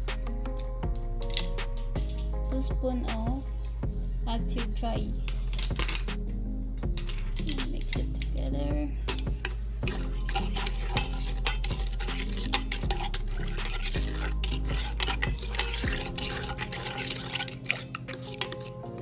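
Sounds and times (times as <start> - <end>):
utensil stirring in a bowl: 0.0 - 3.8, 6.9 - 19.0.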